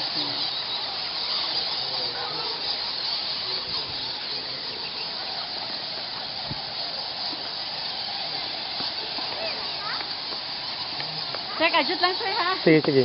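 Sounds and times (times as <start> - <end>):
bats squeaking in chorus: 0.0 - 13.0.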